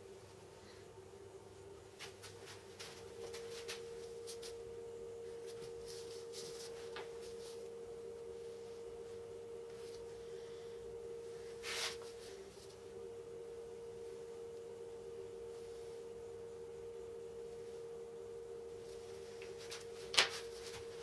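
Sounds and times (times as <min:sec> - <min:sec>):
faint steady pure tone: 0:00.0 - 0:21.0.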